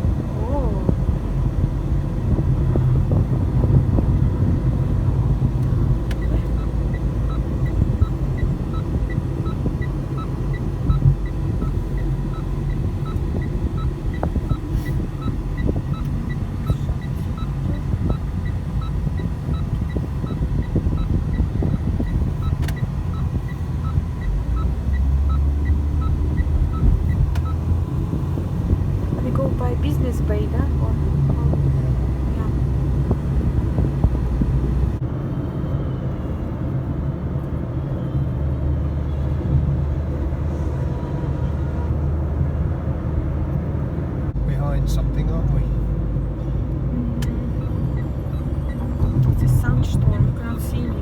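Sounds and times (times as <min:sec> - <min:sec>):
turn signal ticking: 0:00.0 - 0:35.5, 0:37.0 - 0:51.0
car road and engine rumble: 0:00.0 - 0:51.0.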